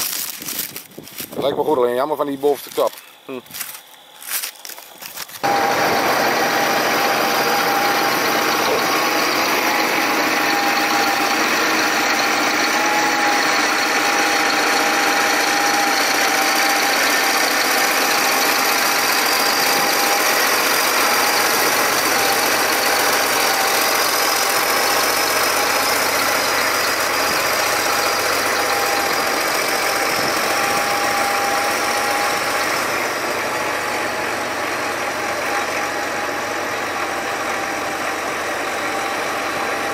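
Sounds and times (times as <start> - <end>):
thin steady whine: 0.0 - 39.9
tractor diesel engine running: 0.0 - 39.9.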